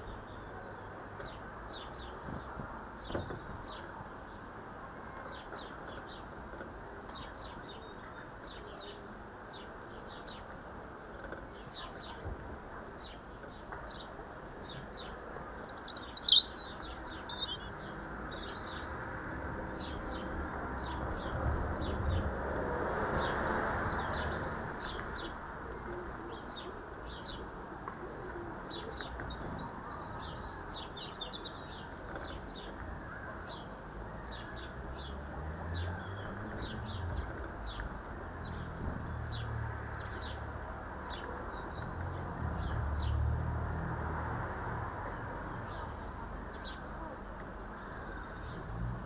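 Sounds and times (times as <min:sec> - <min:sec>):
small birds chirping: 0:00.0 - 0:22.3, 0:23.1 - 0:43.8, 0:45.0 - 0:49.0.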